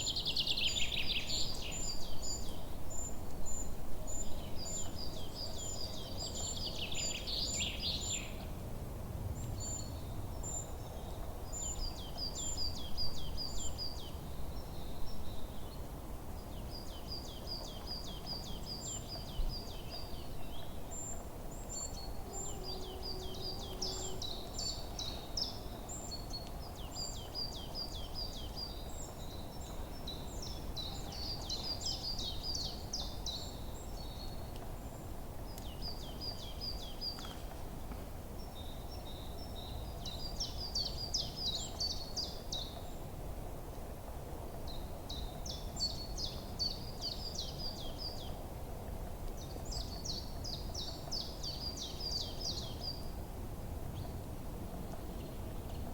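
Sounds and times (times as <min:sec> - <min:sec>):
songbirds chirping and trilling: 0:00.0 - 0:08.6, 0:09.2 - 0:55.9.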